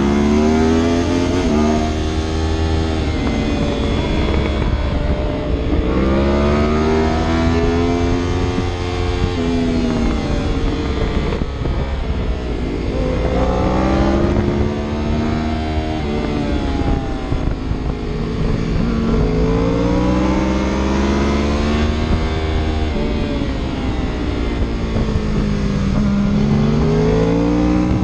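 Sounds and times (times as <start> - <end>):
engine revving under acceleration: 0.0 - 28.0
wind and road rumble: 0.0 - 28.0.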